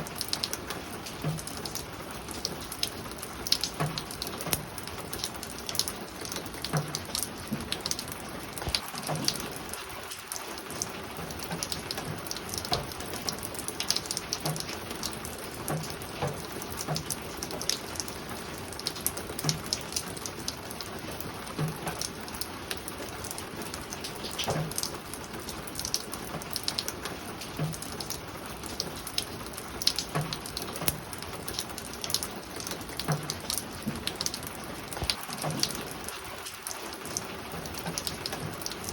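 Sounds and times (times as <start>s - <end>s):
rain on a roof: 0.0s - 38.9s.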